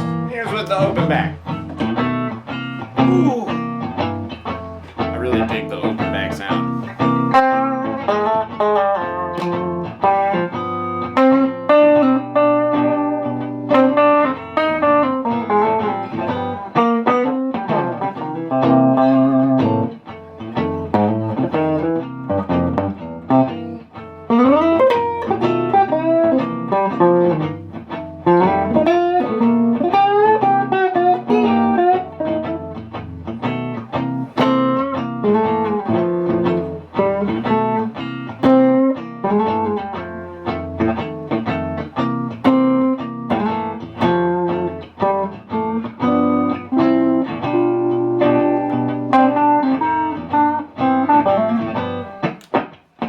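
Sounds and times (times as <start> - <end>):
electric guitar playing: 0.0 - 53.0.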